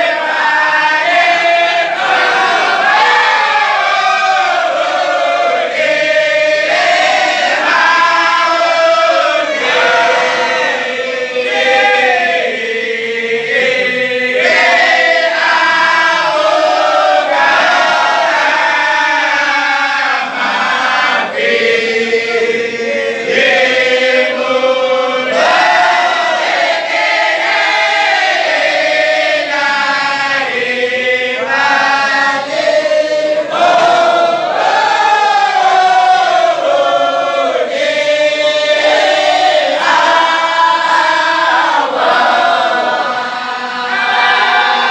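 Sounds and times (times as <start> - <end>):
men and boys chanting: 0.0 - 44.9.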